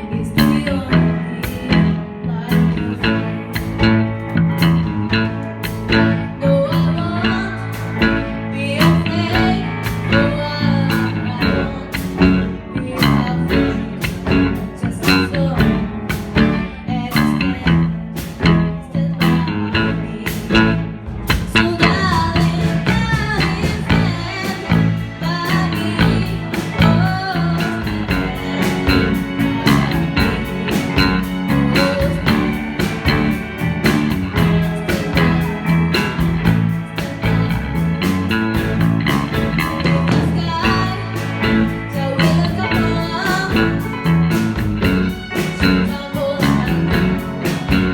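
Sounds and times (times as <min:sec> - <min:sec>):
person singing: 0:00.0 - 0:04.3, 0:06.0 - 0:47.9
blues-rock band music: 0:00.0 - 0:47.9.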